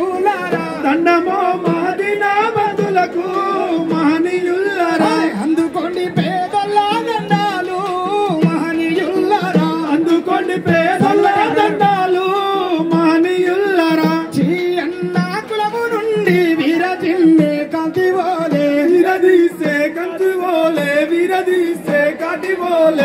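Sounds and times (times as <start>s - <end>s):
frame drums beating: 0.0s - 23.0s
men singing through microphones: 0.0s - 23.0s.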